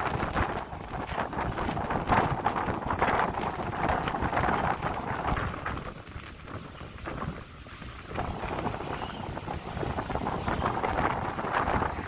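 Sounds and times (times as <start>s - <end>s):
wind gusting on microphone: 0.0s - 12.0s.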